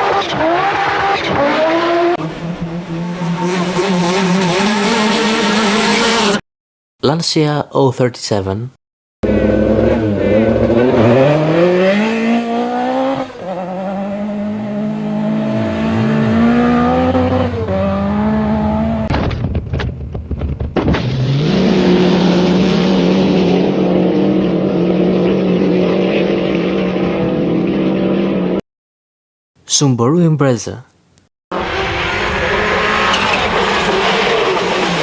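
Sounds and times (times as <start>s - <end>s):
rally car engine revving: 0.0s - 6.4s, 9.2s - 19.8s, 20.4s - 28.6s, 31.6s - 35.0s.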